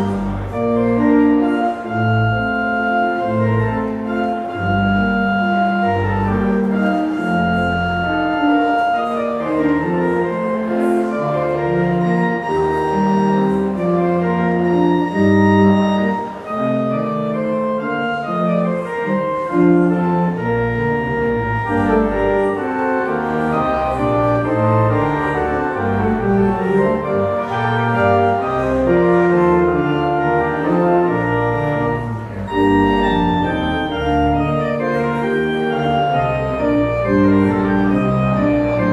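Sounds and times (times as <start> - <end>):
church organ chords: 0.0 - 38.9.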